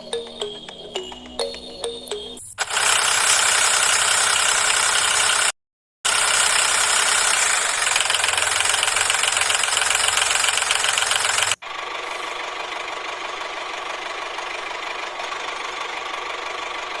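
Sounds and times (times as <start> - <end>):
small motor knocking rattle: 2.6 - 5.5, 6.1 - 17.0.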